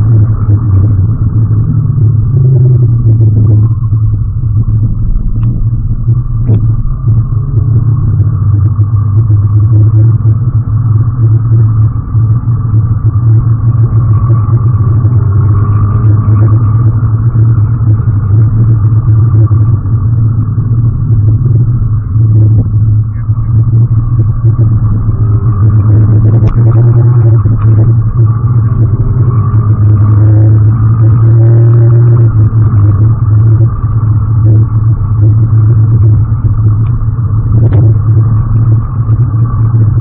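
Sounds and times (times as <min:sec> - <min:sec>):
car engine droning: 0:00.0 - 0:40.0
road and wind noise: 0:00.0 - 0:40.0.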